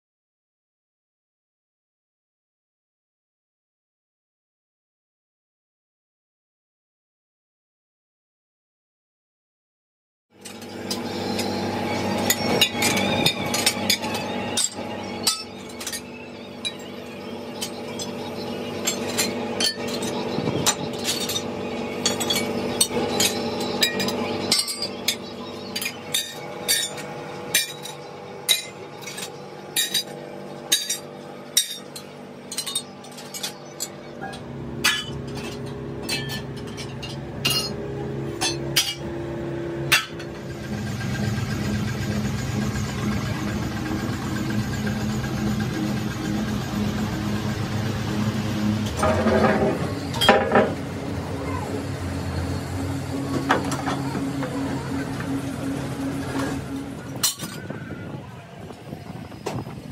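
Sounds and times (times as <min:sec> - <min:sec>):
steady hum: 0:10.4 - 0:59.9.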